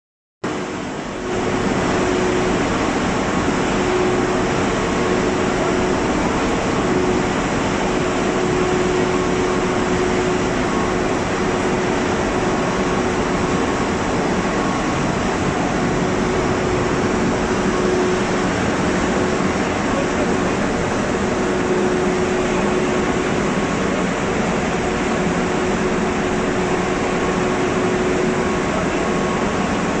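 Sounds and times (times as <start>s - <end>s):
steady hum: 0.5s - 30.0s.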